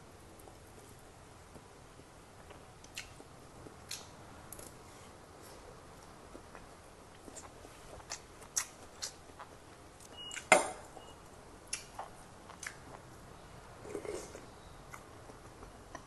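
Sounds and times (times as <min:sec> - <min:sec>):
soft chewing: 0:00.3 - 0:16.0.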